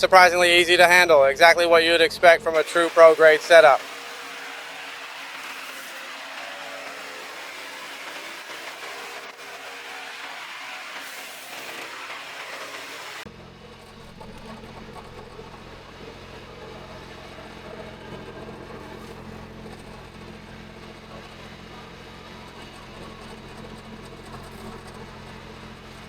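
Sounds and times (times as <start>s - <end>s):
loader engine running: 2.4s - 26.0s.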